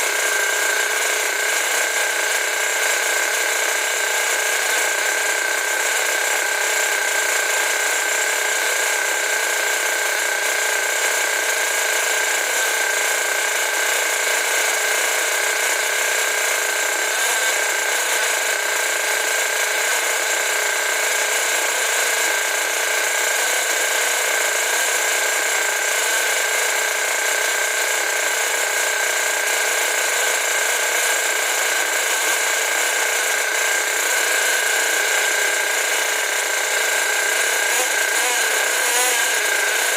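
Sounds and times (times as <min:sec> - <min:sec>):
model engine high-pitched whine: 0:00.0 - 0:39.9.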